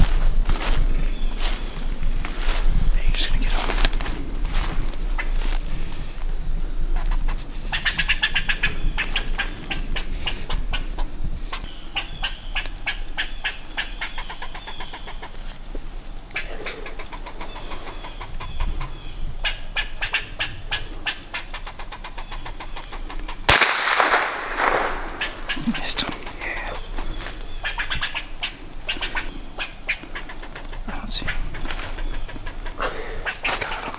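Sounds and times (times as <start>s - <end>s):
squirrels barking and chattering: 0.0s - 5.6s, 6.6s - 23.7s, 24.4s - 33.9s.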